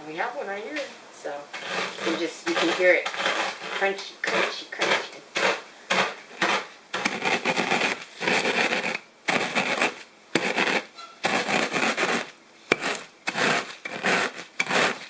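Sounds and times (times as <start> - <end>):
rolling pin crushing cornflakes: 1.5 - 15.0.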